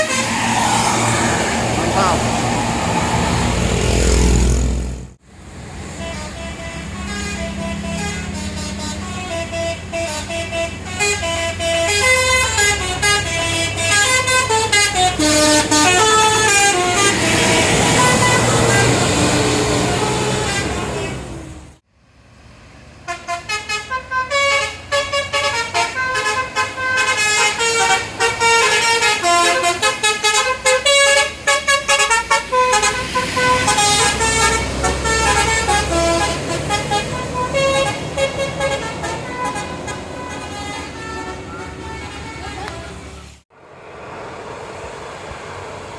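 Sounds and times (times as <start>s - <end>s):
bus horns playing melodic tunes: 0.0s - 5.2s, 5.9s - 21.7s, 23.0s - 43.4s
bus engine running: 0.0s - 45.9s.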